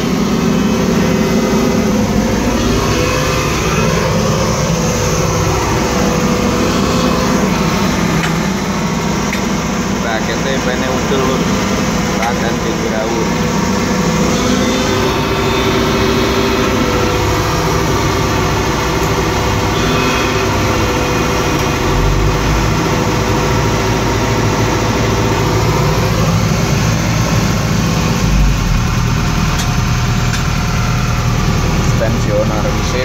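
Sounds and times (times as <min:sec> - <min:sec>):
excavator diesel engine idling: 0:00.0 - 0:33.0.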